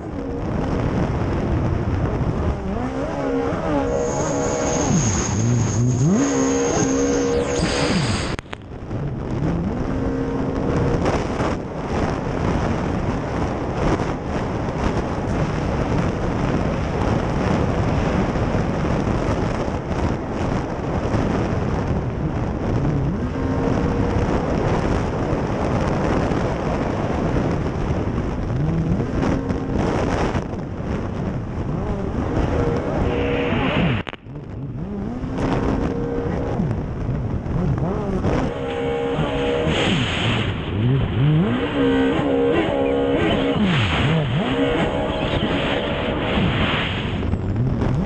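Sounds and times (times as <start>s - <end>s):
jet ski engine running hard: 0.0s - 48.0s
wind buffeting microphone: 0.0s - 48.0s.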